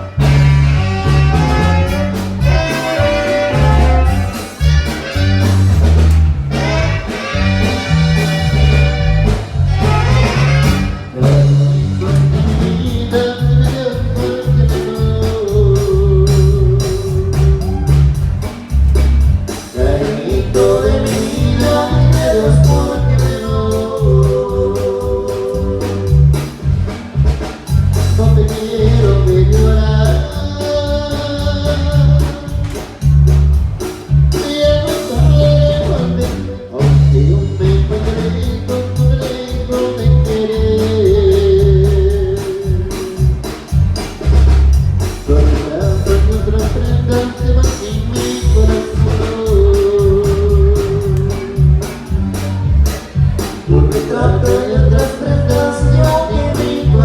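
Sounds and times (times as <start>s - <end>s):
heavy pulsing bass beat: 0.0s - 57.0s
music with singing voice: 0.0s - 57.0s.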